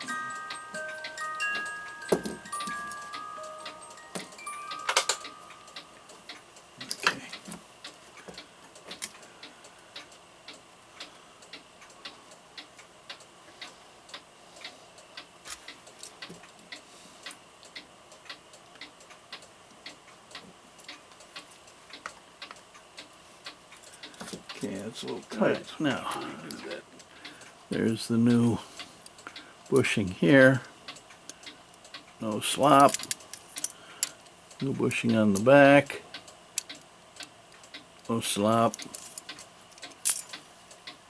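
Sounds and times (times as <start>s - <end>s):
mechanical clock ticking: 0.0s - 41.0s.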